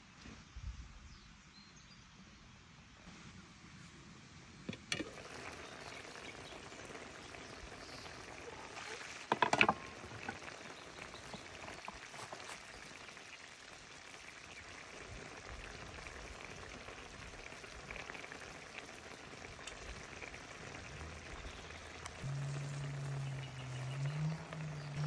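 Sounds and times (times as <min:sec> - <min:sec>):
stew simmering and bubbling: 0:04.5 - 0:25.0.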